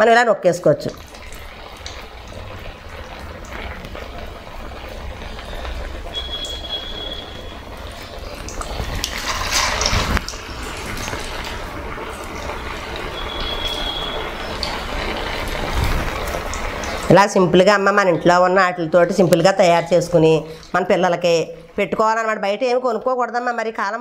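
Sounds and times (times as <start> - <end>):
food sizzling and bubbling in oil: 0.5 - 24.0.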